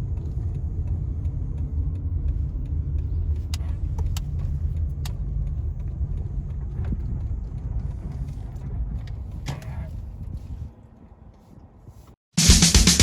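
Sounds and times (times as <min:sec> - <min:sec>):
car rumbling: 0:00.0 - 0:11.9.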